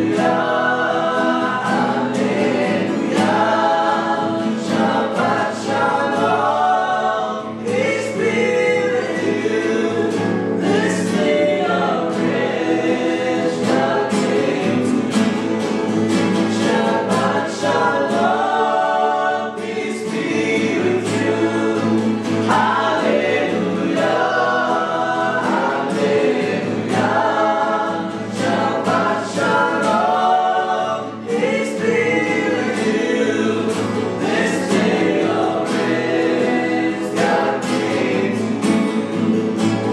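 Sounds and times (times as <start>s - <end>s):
choir singing a gospel song: 0.0s - 39.9s
musical accompaniment: 0.0s - 39.9s.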